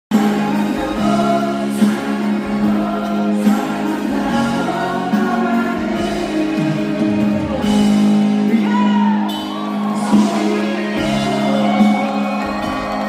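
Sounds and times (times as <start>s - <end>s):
orchestra and rock band playing: 0.1s - 13.0s.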